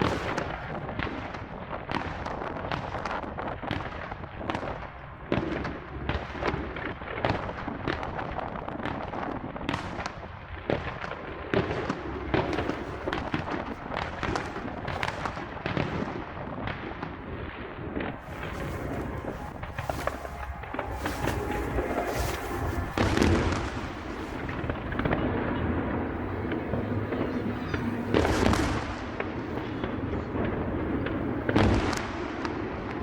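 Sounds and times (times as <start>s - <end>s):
loud firework bangs: 0.0s - 33.0s.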